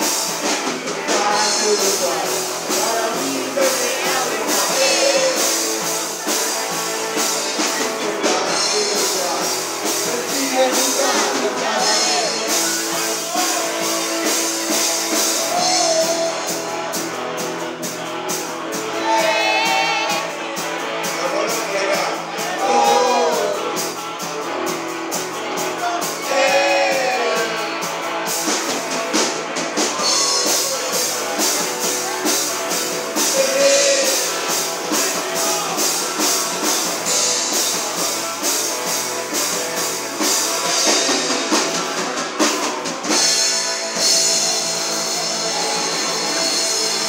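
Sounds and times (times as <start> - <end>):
person singing: 0.0 - 17.0, 18.7 - 24.0, 25.6 - 47.0
drum kit beat: 0.0 - 47.0
electric guitars: 0.0 - 47.0.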